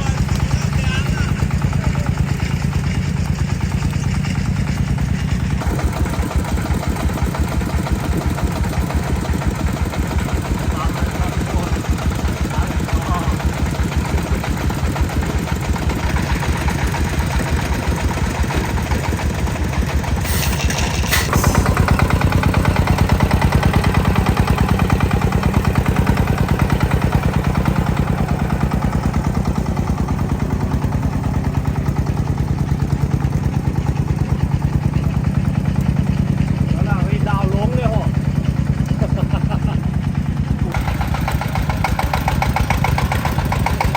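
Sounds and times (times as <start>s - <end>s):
sharp engine knocks: 0.0s - 43.9s
tractor engine chugging: 0.0s - 43.9s.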